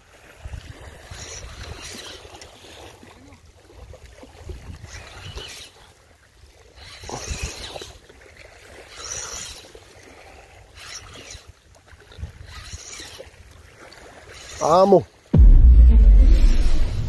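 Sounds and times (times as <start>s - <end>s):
small waves washing ashore: 0.0s - 15.4s.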